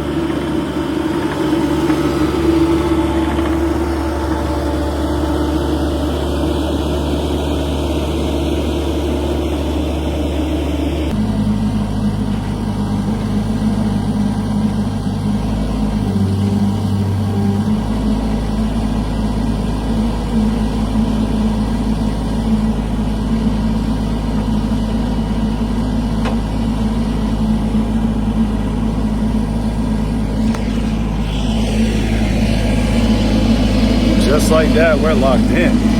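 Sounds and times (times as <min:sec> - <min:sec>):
engine running: 0:00.0 - 0:35.9.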